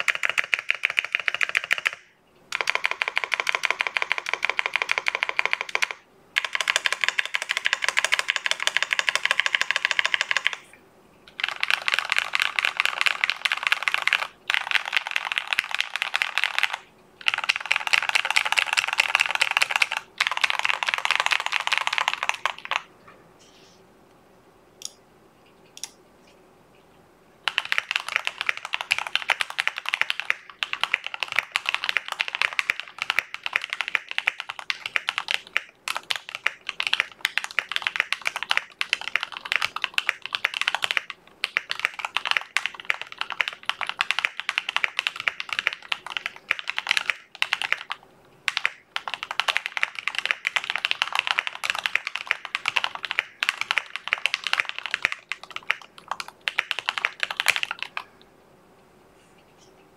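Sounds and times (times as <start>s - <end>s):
mechanical keyboard typing: 0.0s - 10.7s, 11.3s - 22.9s, 27.4s - 58.2s.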